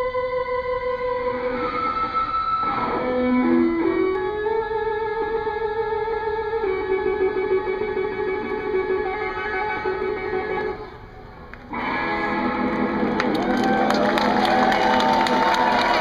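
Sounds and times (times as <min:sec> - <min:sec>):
electric guitar melody: 0:00.0 - 0:16.0.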